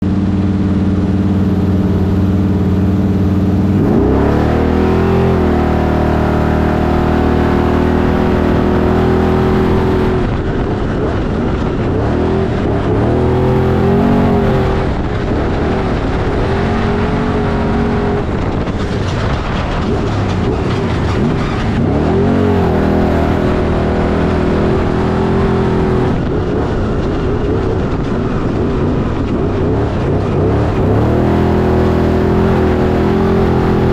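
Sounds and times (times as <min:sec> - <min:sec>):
race vehicle engine revving: 0:00.0 - 0:33.9.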